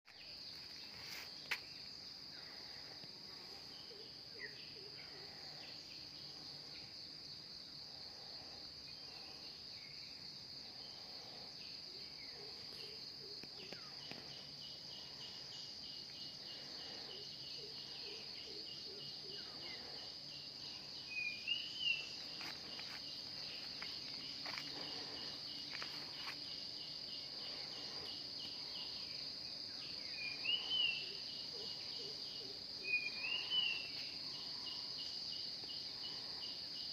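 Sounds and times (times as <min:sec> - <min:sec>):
rapidly pulsing insect call: 0:00.1 - 0:36.9
insect high-pitched trill: 0:00.2 - 0:36.9.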